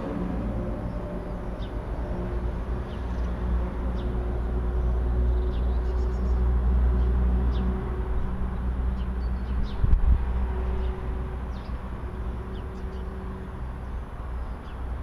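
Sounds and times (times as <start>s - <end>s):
heavy engine rumble: 0.0s - 15.0s.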